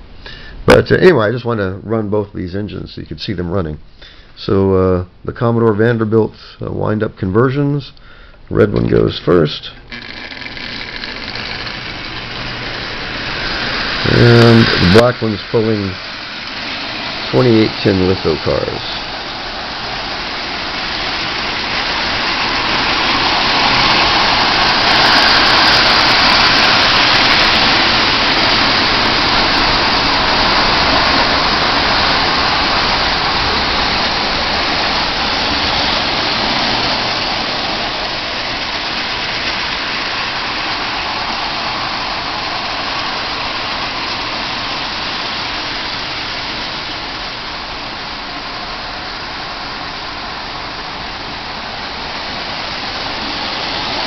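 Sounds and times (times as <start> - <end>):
toy train motors whirring: 8.8 - 54.0
wheels rattling on track: 9.8 - 54.0.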